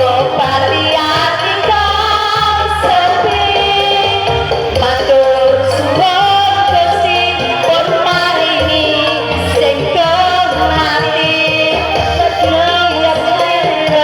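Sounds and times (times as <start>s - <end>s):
steady bass beat: 0.0s - 14.0s
woman singing: 0.0s - 14.0s.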